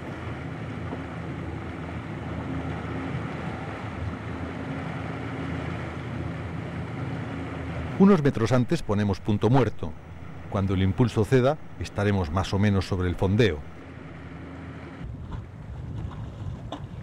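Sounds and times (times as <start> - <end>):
motorboat engine running: 0.0 - 17.0
wind: 0.0 - 17.0.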